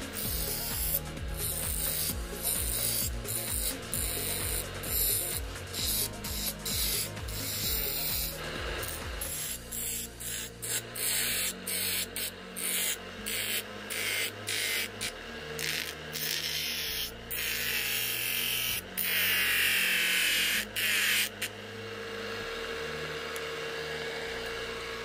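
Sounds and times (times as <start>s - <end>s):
bench grinder motor humming: 0.0s - 25.0s.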